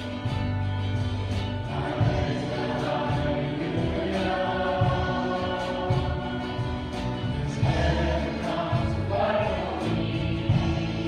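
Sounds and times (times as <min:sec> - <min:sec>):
acoustic guitar: 0:00.0 - 0:11.0
electric bass: 0:00.0 - 0:11.0
steady beat: 0:00.0 - 0:11.0
voices singing together: 0:00.0 - 0:11.0.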